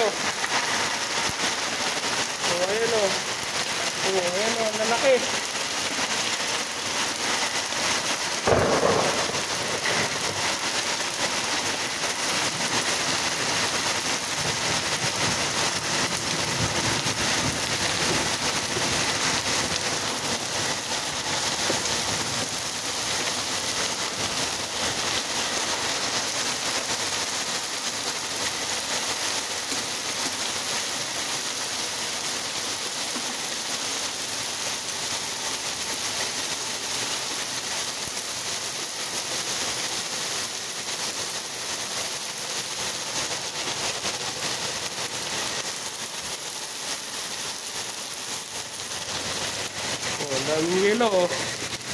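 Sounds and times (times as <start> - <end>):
hail and rain on paving: 0.0 - 51.9.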